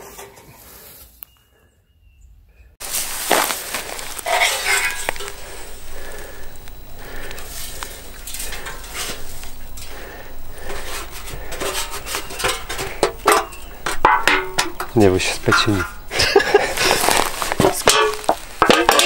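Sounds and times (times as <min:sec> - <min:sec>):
sheet metal pot crinkling: 0:02.8 - 0:19.0.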